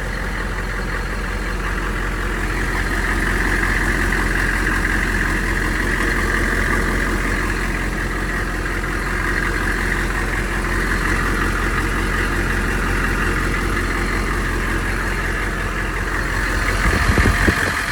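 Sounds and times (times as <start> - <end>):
diesel engine idling: 0.0 - 17.9.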